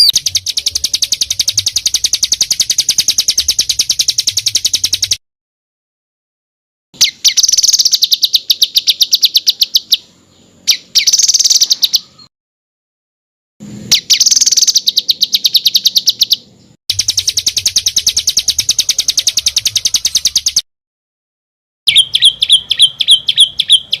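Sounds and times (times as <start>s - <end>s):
songbird harsh rapid trills: 0.0s - 5.2s, 7.0s - 12.2s, 13.7s - 20.6s, 21.9s - 24.0s.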